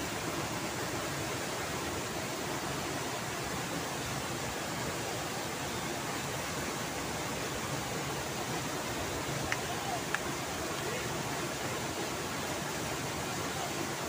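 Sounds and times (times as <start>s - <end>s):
waterfall and river roar: 0.0s - 14.0s.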